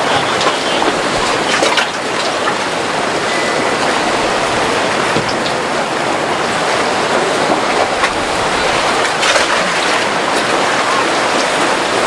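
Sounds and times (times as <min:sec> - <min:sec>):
choppy sea and breaking surf: 0:00.0 - 0:12.0
water splashes: 0:00.0 - 0:12.0.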